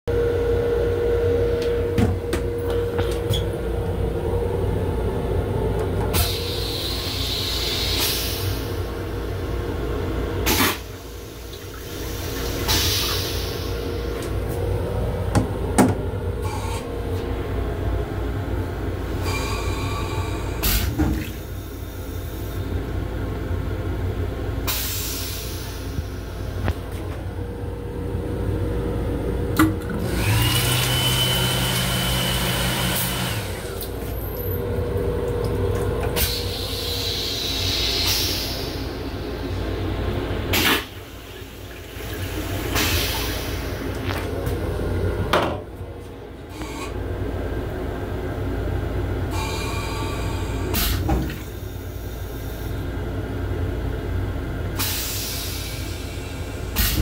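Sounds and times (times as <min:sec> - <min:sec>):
steady hum: 0:00.1 - 0:57.0
railcar running rumble: 0:00.2 - 0:30.4, 0:33.3 - 0:57.0.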